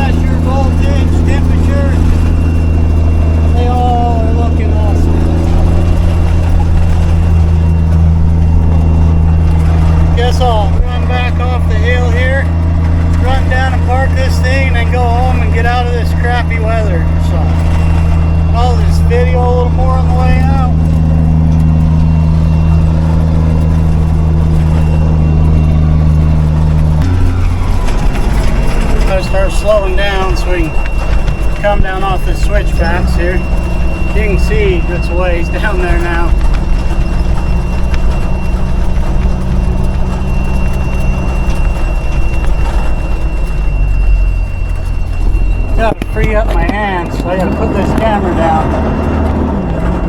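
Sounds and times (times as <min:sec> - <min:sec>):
faint high whine: 0:00.0 - 0:50.0
truck engine droning: 0:00.0 - 0:50.0.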